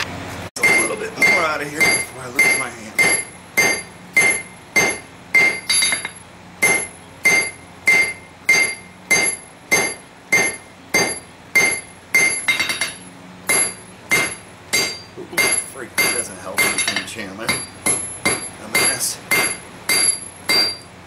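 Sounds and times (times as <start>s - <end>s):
hammer striking steel on anvil: 0.6s - 20.9s.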